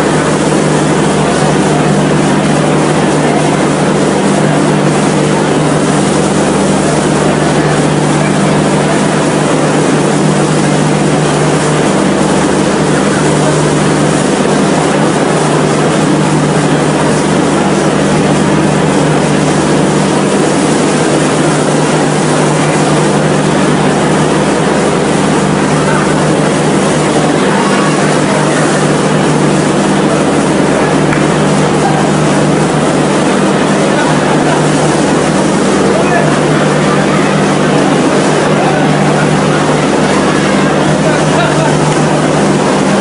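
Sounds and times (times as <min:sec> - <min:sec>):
train running: 0:00.0 - 0:43.0.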